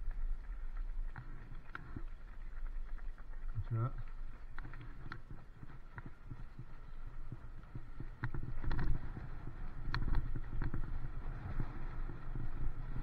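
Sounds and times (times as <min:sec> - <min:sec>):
bicycle rolling on wet tarmac: 0:00.0 - 0:13.0.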